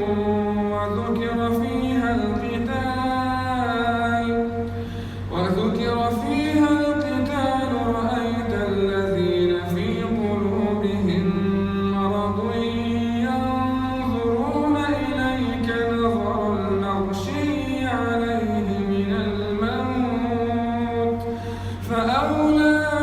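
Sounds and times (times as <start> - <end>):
man chanting verses: 0.0 - 23.0.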